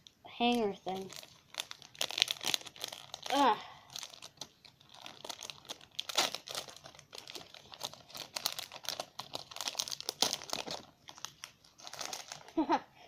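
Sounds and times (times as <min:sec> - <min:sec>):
wax paper wrapper crinkling and tearing: 0:00.0 - 0:12.6.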